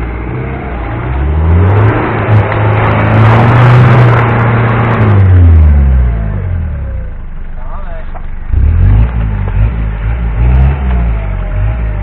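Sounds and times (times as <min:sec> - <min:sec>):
truck engine revving hard: 0:00.0 - 0:06.8, 0:08.5 - 0:12.0.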